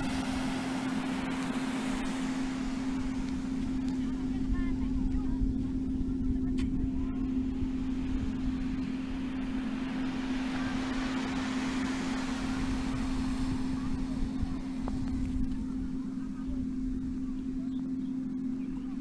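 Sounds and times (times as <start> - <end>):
small waves washing onto sand: 0.0 - 16.4
steady low hum: 0.0 - 19.0
wind buffeting microphone: 0.0 - 19.0.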